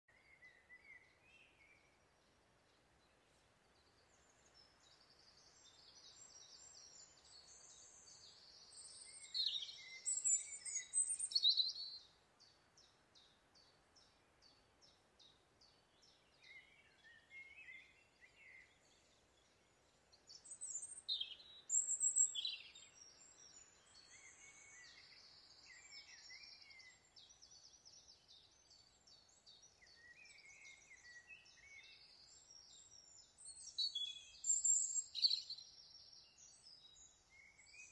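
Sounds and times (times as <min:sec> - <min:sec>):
faint steady background hiss: 0:00.1 - 0:37.9
songbirds singing and calling: 0:00.1 - 0:37.9.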